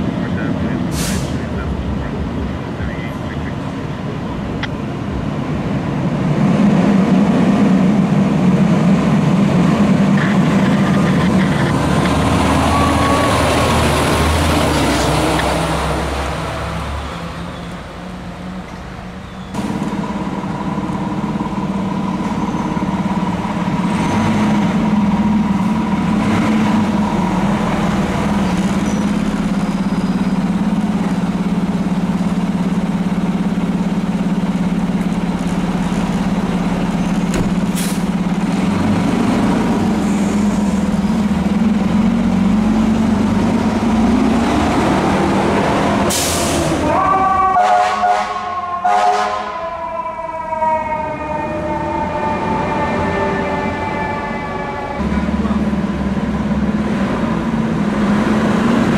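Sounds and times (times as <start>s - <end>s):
heavy truck engine running: 0.0s - 47.0s, 47.8s - 58.9s.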